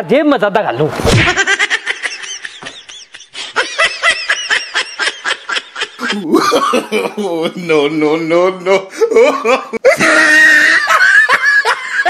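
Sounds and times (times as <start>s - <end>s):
person laughing: 1.1s - 12.0s.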